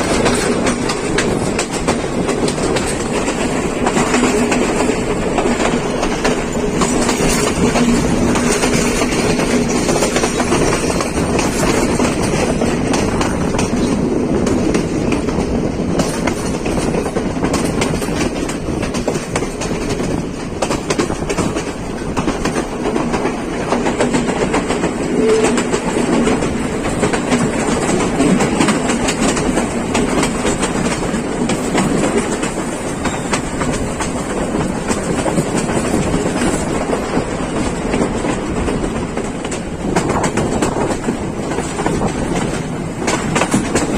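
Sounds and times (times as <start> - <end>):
train rumbling on track: 0.0 - 43.9
wheels clacking over rail joints: 0.0 - 43.9.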